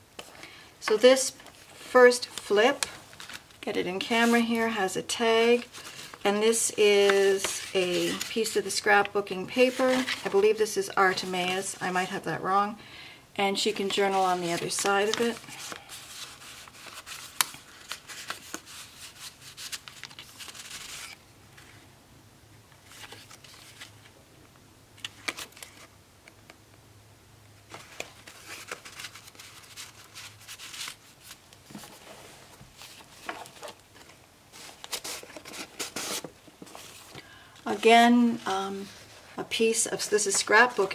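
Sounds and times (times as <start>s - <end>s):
paper pages rustling and crinkling: 1.4s - 12.1s, 13.7s - 21.8s, 22.8s - 24.2s, 25.0s - 25.9s, 27.7s - 40.9s.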